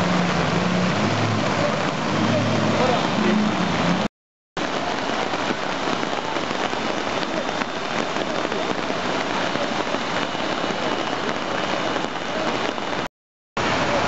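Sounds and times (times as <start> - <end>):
heavy rain pouring: 0.0 - 14.0
rushing flood water: 0.0 - 14.0.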